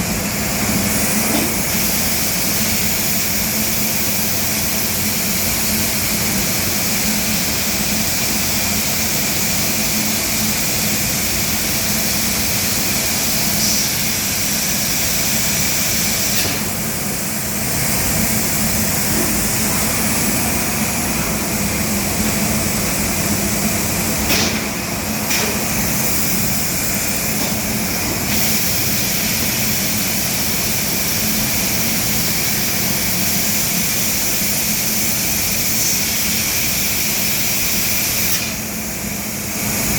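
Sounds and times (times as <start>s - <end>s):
cnc machine humming and whining: 0.0s - 39.9s.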